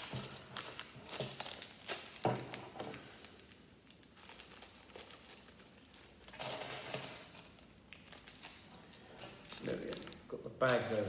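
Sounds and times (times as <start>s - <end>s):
plastic bag crinkling: 0.0s - 6.4s, 7.6s - 10.4s.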